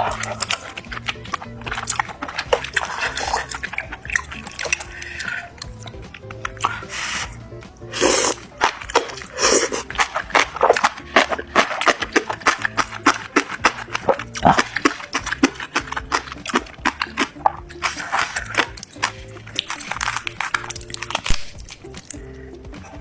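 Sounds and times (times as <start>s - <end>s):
chewing up close: 0.0s - 23.0s
soft background music: 0.0s - 23.0s.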